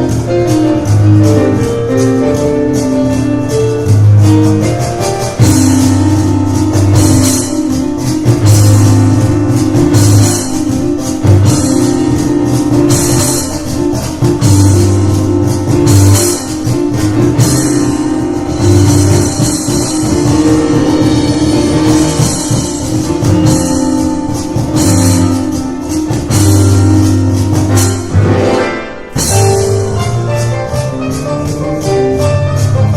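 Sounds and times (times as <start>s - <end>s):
cajon beat: 0.0s - 32.9s
piano chords: 0.0s - 32.9s.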